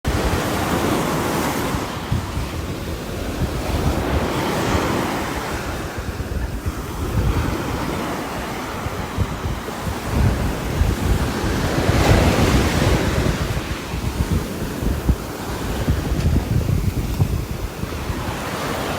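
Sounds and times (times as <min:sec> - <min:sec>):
wind buffeting microphone: 0:00.1 - 0:18.9
wind gusting through trees: 0:00.1 - 0:18.9.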